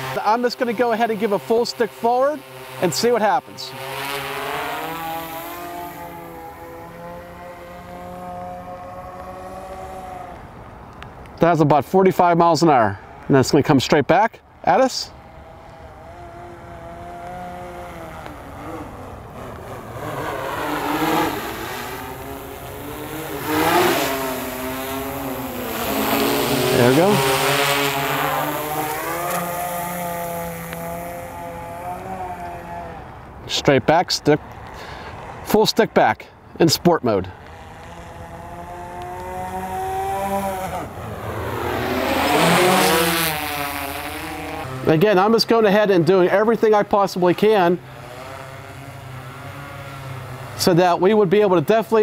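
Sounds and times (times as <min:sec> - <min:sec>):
drone propellers whining: 0:00.0 - 0:11.4, 0:14.4 - 0:36.0, 0:37.1 - 0:52.0.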